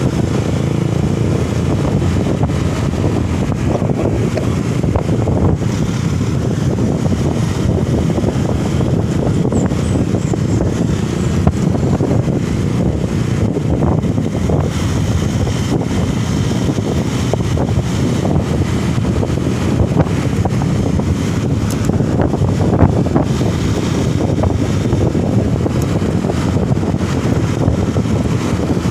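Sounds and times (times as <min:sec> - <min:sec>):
vehicle rumble: 0:00.0 - 0:28.9
wind buffeting microphone: 0:00.0 - 0:28.9.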